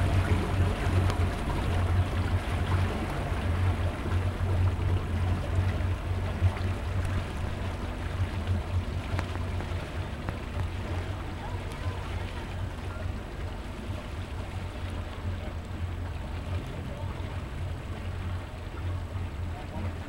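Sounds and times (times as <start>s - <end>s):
motorboat engine rumbling: 0.0s - 20.0s.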